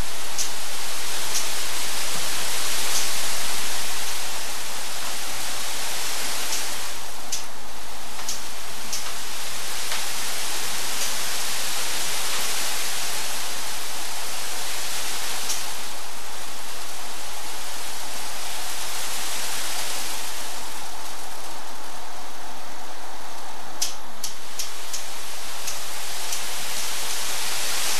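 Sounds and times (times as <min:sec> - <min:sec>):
fans blowing air into plastic bags: 0:00.0 - 0:27.9.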